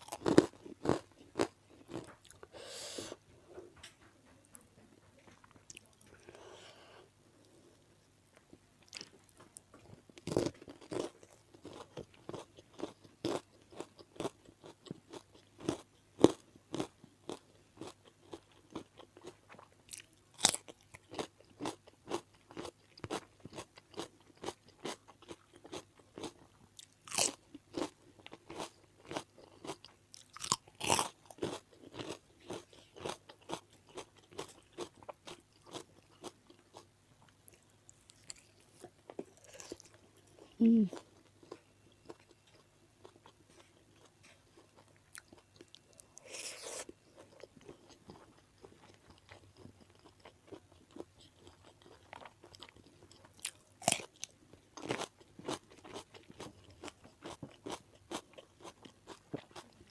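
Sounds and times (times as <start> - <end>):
chewing and crunching food: 0.0 - 2.6, 3.4 - 59.9.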